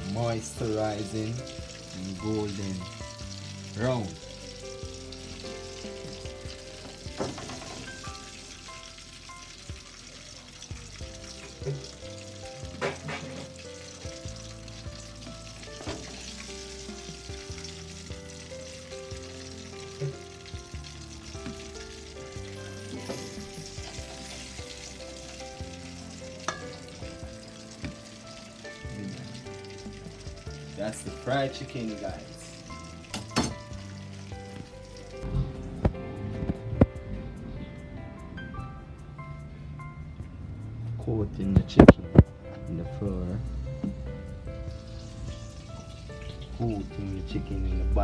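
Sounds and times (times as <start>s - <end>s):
chicken sizzling in oil: 0.0s - 36.0s, 43.0s - 48.0s.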